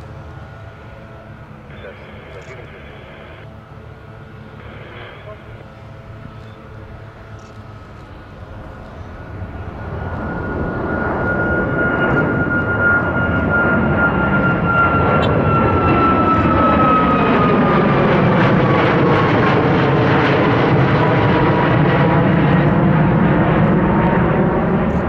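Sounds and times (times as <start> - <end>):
jet engines roaring with high whine: 0.0 - 25.0.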